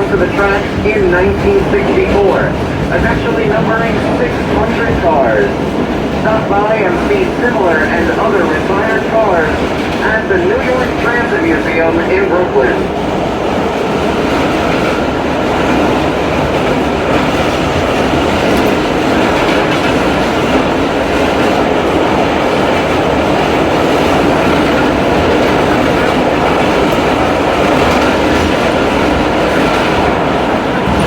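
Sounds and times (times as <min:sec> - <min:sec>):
subway car wheels rumbling: 0:00.0 - 0:31.0.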